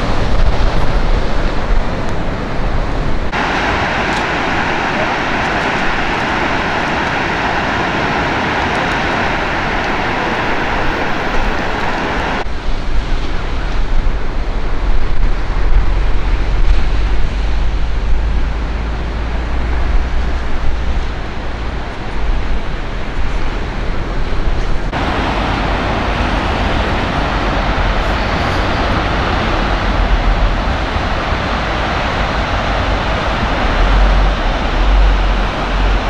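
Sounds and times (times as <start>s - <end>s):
steady rushing outdoor noise: 0.0s - 36.0s
wind rumbling on microphone: 0.0s - 36.0s.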